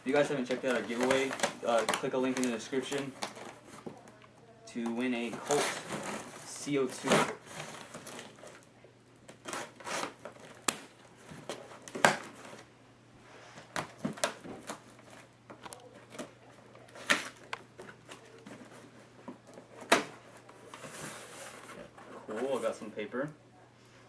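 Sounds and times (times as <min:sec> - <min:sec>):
packing paper rustling: 0:00.0 - 0:04.2, 0:04.8 - 0:08.7, 0:09.3 - 0:12.7, 0:13.6 - 0:23.0.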